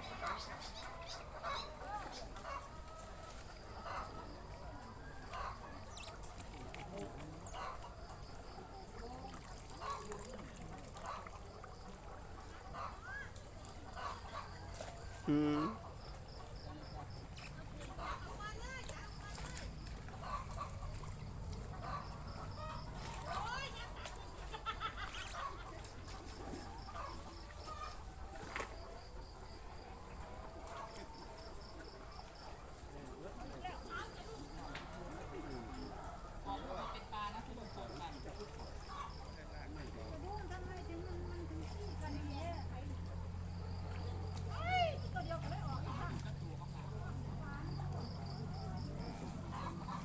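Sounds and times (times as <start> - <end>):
faint voices: 0.0 - 50.0
water trickling and splashing: 0.0 - 50.0.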